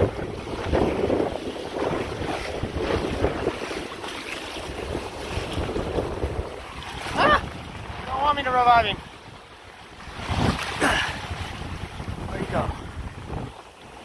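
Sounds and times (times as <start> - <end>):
shallow water splashing: 0.0 - 14.0
wind rumbling on microphone: 0.0 - 14.0.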